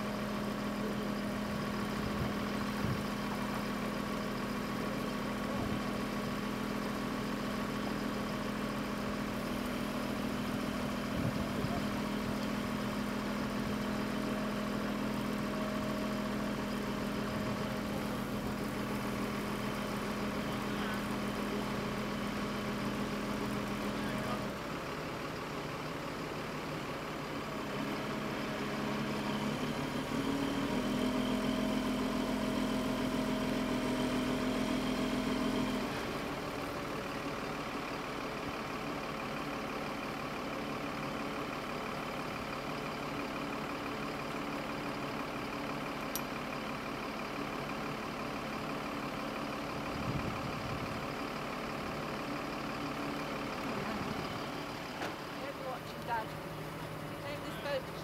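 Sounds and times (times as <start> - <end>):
crane diesel engine running: 0.0 - 58.0.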